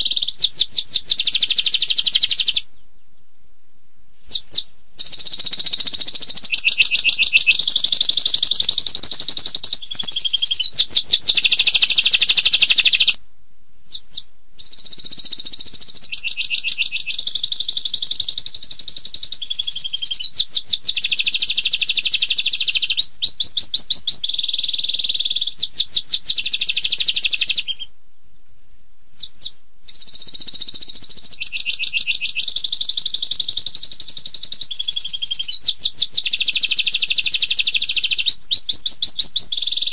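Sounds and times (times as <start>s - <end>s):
canary singing trills: 0.0s - 3.3s, 4.2s - 13.2s, 13.8s - 27.9s, 29.1s - 39.9s.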